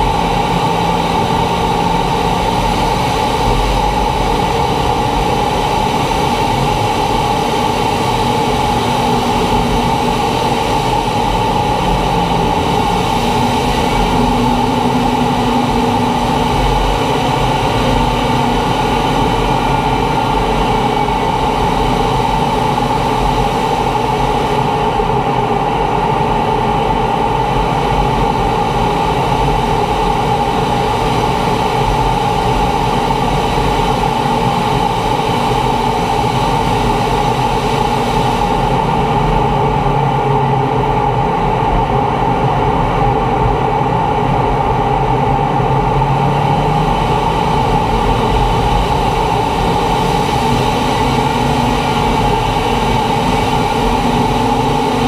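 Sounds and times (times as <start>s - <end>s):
jet engine drone: 0.0s - 55.0s
mid-pitched hum: 0.0s - 55.0s
rushing air: 0.0s - 55.0s.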